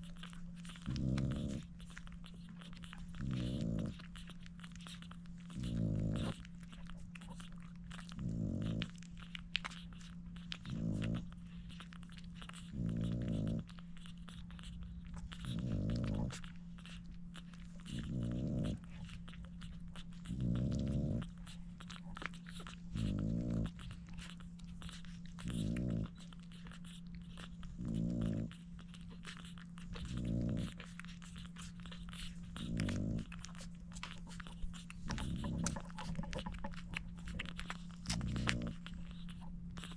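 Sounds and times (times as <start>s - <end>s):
dog breathing heavily: 0.0s - 39.9s
puppies suckling: 0.0s - 39.9s
steady low hum: 0.0s - 39.9s.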